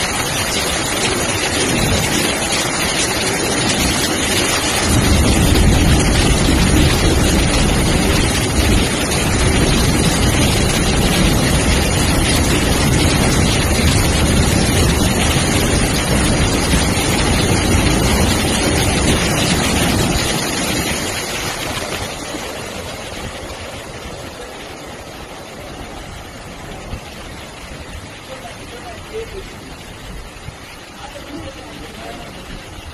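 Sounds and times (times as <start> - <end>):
freight train running: 0.0 - 32.9
water churning and spraying: 0.0 - 32.9.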